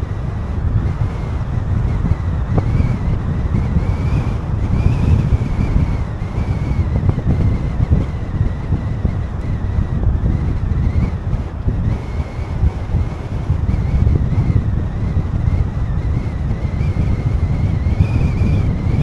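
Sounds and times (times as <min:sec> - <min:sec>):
car driving rumble: 0:00.0 - 0:19.0
wind buffeting microphone: 0:00.0 - 0:19.0.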